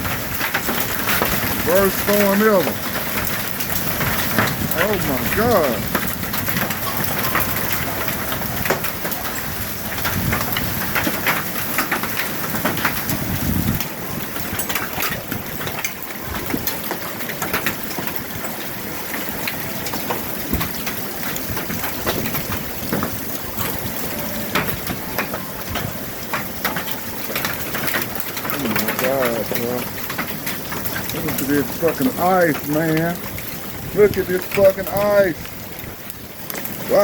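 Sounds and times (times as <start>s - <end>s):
hailstones clicking and rattling: 0.0s - 37.0s
heavy rain roaring: 0.0s - 37.0s.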